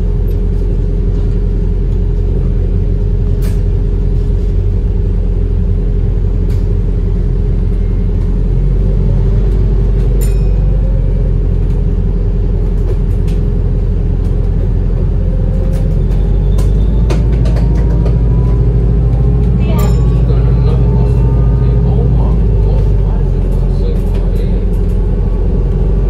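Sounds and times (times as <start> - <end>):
bus rumbling with faint whine: 0.0 - 26.0.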